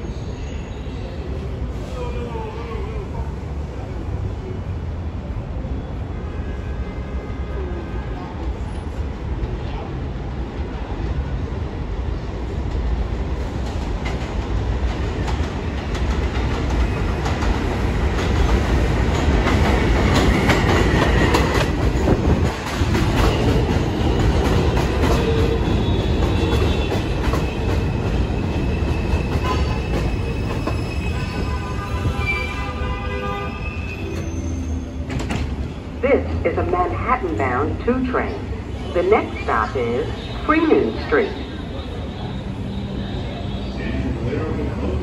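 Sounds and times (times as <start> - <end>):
subway train wheels clattering: 0.0 - 45.0.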